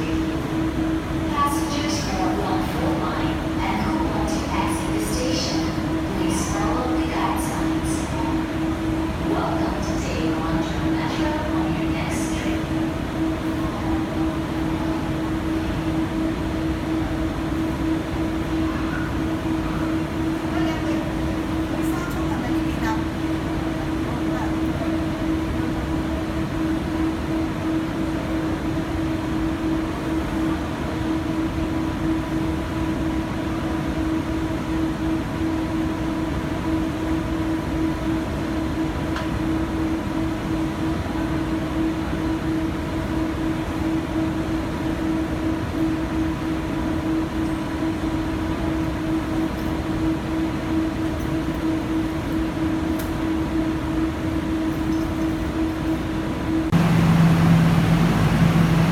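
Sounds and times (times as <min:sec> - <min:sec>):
constant humming tone: 0:00.0 - 0:58.9
subway train wheels rumbling on rail: 0:00.0 - 0:58.9.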